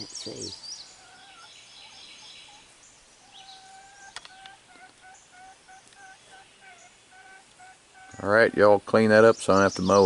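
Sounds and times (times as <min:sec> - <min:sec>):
chickens clucking: 0:00.0 - 0:10.0
songbirds chirping: 0:00.0 - 0:10.0.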